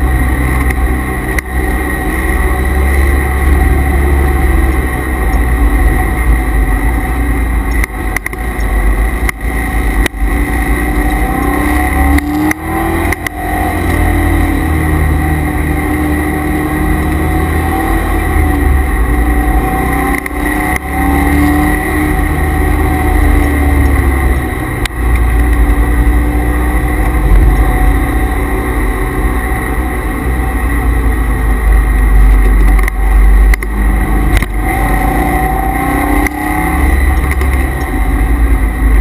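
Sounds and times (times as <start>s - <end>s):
car engine under hard driving: 0.0s - 39.0s
steady mechanical whine: 0.0s - 39.0s.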